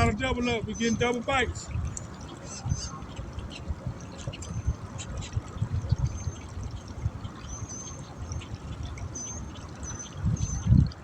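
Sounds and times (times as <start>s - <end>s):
water trickling and lapping: 0.0s - 11.0s.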